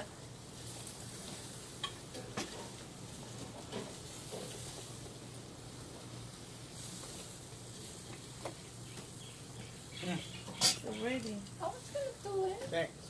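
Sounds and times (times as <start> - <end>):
food sizzling on a grill: 0.0 - 13.0.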